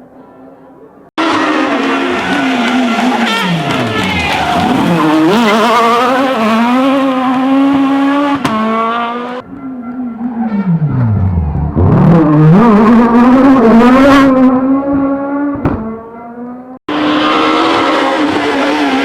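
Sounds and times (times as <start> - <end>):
car accelerating away: 1.2 - 19.0
rally car engine revving: 1.2 - 19.0.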